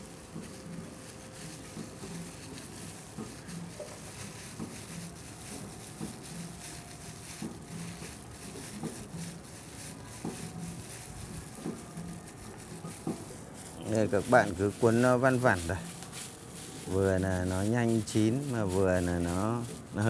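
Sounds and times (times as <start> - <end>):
plastic gloves crinkling: 0.0 - 20.0.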